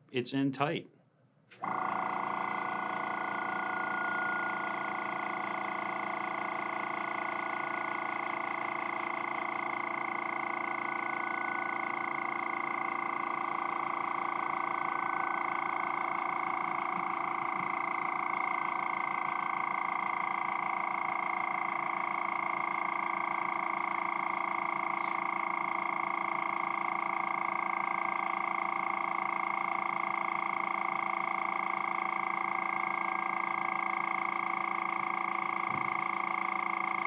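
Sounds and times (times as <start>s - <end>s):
air compressor running: 1.5s - 37.0s.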